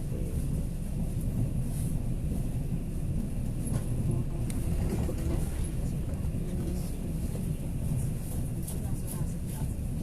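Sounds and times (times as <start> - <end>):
train rumbling at speed: 0.0 - 10.0.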